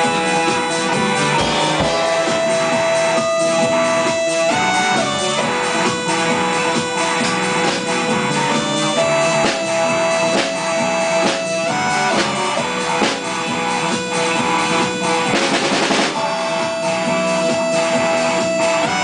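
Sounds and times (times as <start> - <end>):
band playing a song: 0.0 - 19.0.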